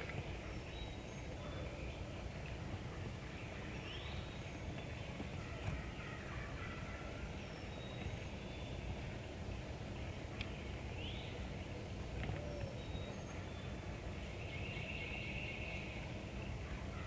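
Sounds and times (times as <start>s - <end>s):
small birds singing: 0.0s - 2.4s, 3.0s - 9.3s, 9.9s - 11.7s, 12.3s - 17.0s.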